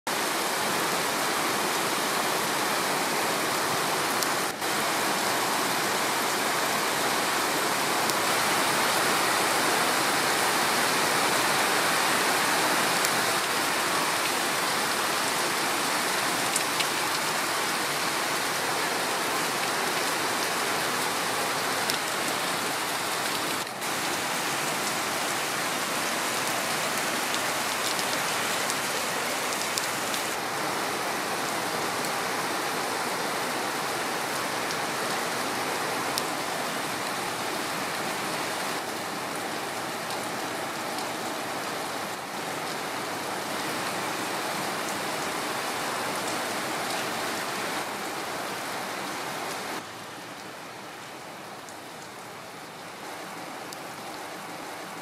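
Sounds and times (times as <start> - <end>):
heavy rain on paving: 0.1 - 55.0.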